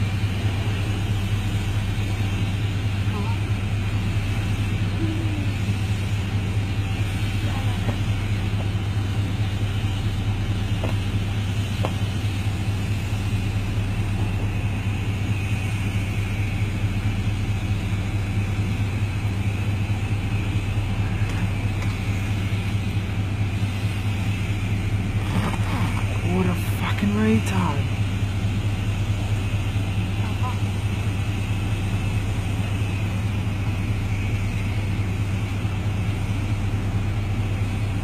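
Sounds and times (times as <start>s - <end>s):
motor humming: 0.0s - 38.0s.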